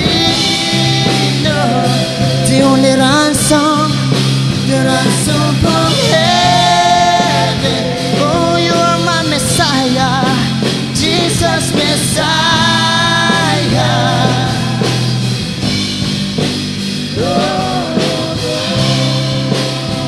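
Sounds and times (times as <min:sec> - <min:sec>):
worship band playing: 0:00.0 - 0:20.0.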